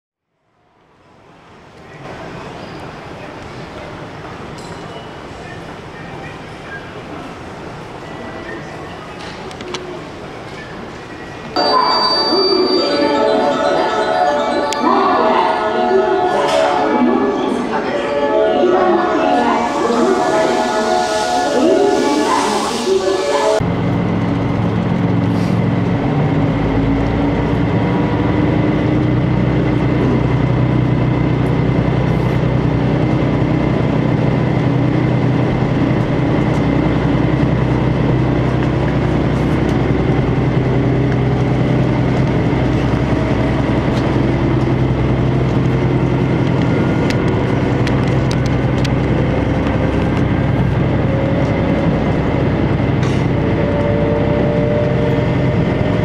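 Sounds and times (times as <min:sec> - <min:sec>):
train engine drone: 0:00.5 - 0:56.0.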